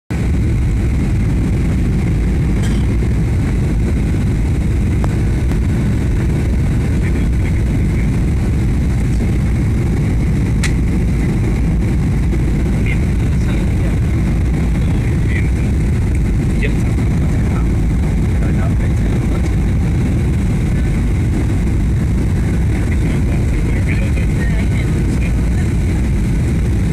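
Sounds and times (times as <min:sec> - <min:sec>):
airliner cabin engine rumble: 0:00.1 - 0:26.9.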